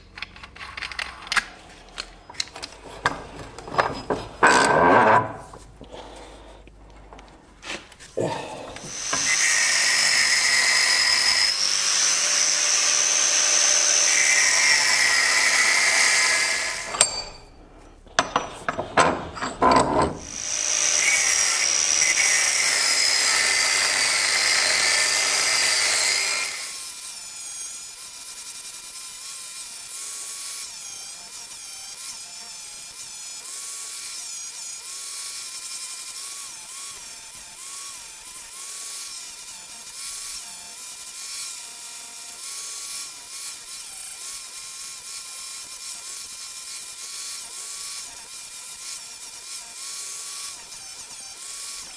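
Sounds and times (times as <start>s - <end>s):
angle grinder cutting steel: 8.3s - 51.9s.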